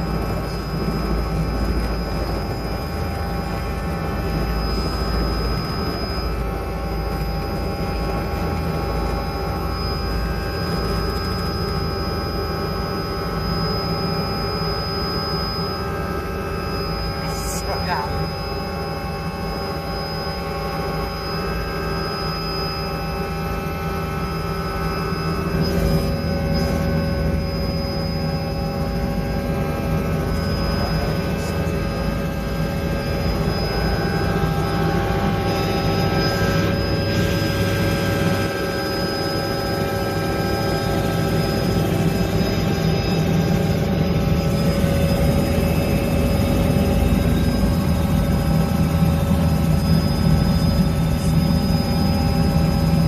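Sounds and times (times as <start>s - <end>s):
helicopter turbine and rotor: 0.0s - 53.0s.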